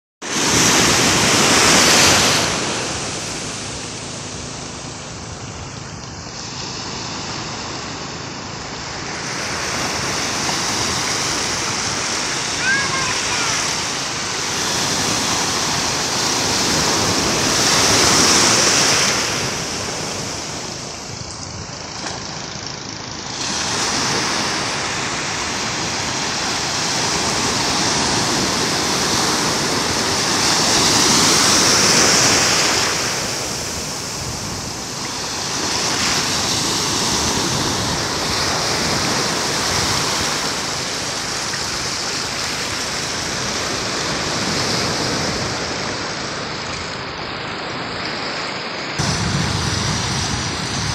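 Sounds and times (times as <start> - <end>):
ocean surf breaking: 0.2 - 50.9.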